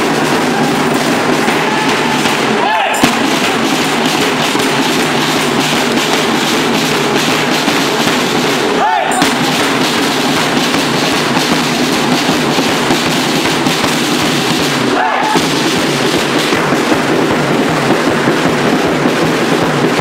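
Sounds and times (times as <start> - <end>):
crowd clapping: 0.0 - 17.0
crowd voices: 0.0 - 20.0
marching drums beating: 0.0 - 20.0.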